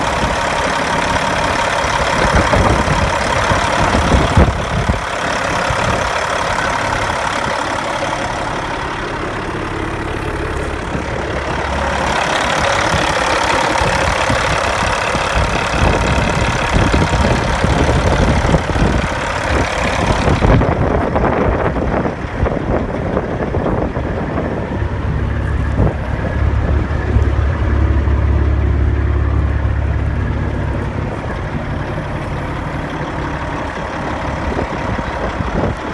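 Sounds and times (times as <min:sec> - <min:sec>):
deep low rumble: 0:00.0 - 0:35.9
truck diesel engine running: 0:00.0 - 0:35.9.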